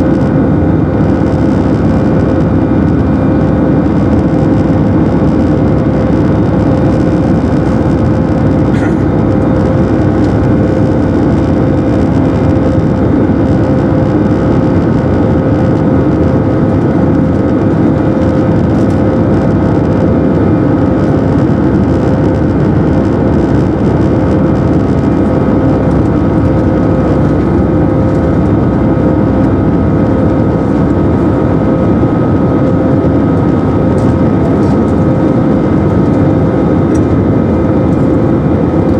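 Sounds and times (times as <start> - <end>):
jet engines droning in cabin: 0.0 - 38.9.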